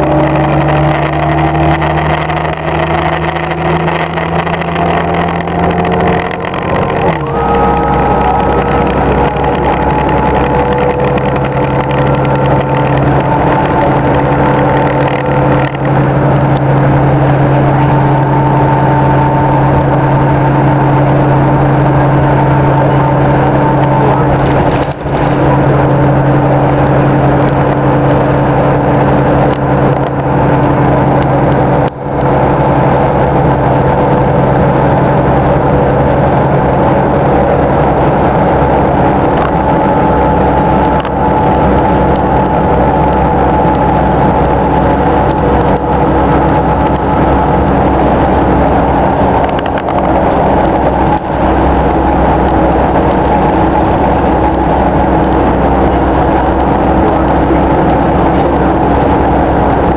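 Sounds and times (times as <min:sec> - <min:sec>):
bus engine droning: 0:00.0 - 0:59.9
road and cabin noise: 0:00.0 - 0:59.9.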